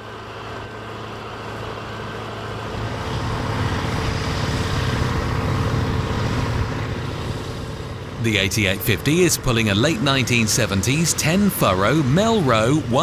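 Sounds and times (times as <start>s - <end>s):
tractor diesel engine under load: 2.6s - 13.0s.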